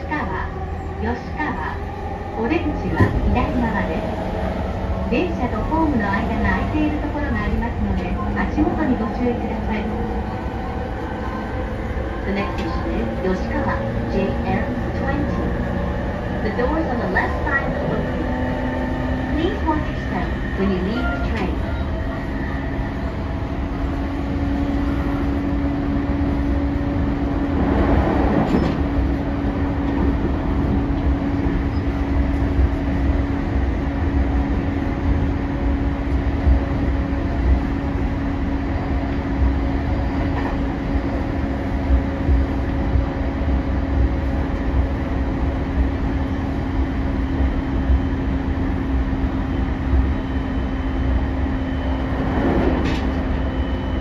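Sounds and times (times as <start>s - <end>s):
train interior rumble and hum: 0.0s - 54.0s.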